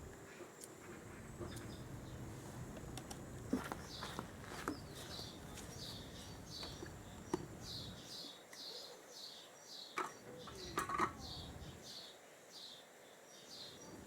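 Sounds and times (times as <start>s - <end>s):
small bird chirping: 1.4s - 2.4s, 3.5s - 14.0s.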